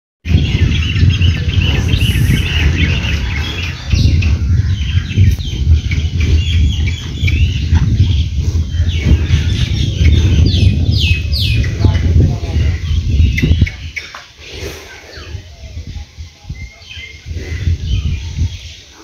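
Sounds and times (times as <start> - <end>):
loud low rumbling: 0.2 - 16.1
small birds chirping: 0.2 - 19.0.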